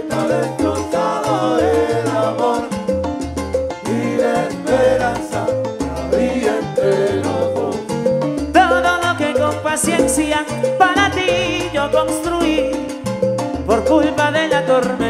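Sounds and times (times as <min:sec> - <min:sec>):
conga hits: 0:00.0 - 0:15.0
salsa band playing: 0:00.0 - 0:15.0.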